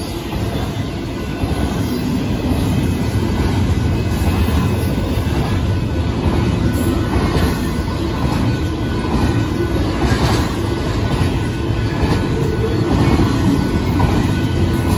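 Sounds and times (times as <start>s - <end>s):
train wheels clattering on rails: 0.0s - 14.9s.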